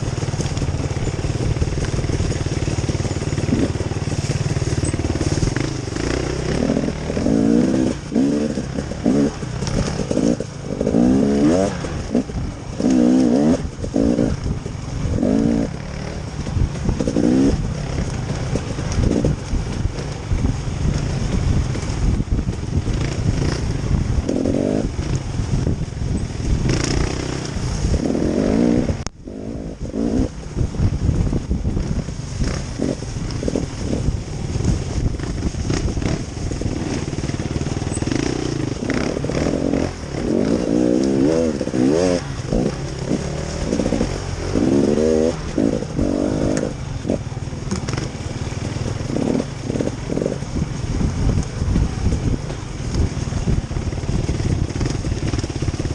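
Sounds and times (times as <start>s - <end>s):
off-road vehicle engine revving: 0.0s - 55.9s.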